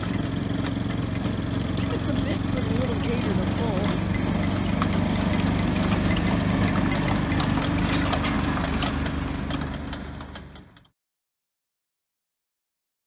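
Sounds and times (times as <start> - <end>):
hay rake clicking and rattling: 0.0 - 10.9
utility vehicle engine running: 0.0 - 10.9.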